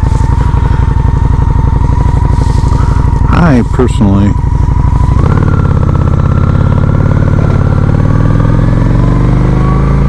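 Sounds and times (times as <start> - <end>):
motorcycle engine pulsing exhaust: 0.0 - 10.0.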